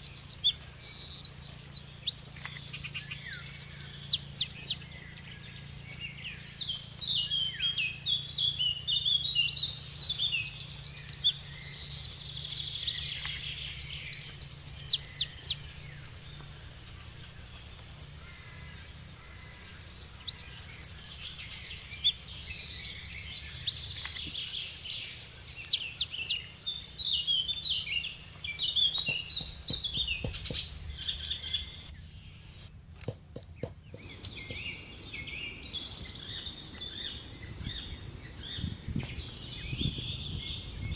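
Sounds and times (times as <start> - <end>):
bird chirps: 0.0 - 40.9
songbird singing: 0.0 - 40.9.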